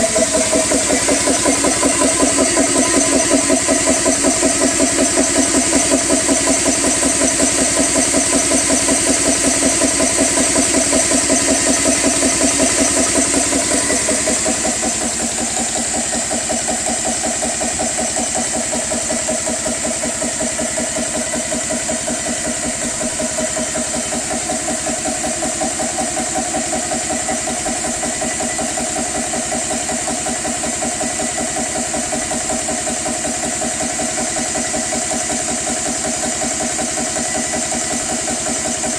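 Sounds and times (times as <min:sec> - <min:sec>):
air compressor pulsing: 0:00.0 - 0:38.9.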